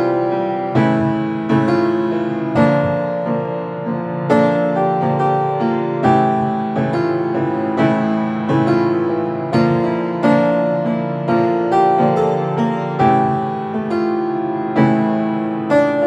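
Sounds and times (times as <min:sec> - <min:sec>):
upright piano chords: 0:00.0 - 0:16.0.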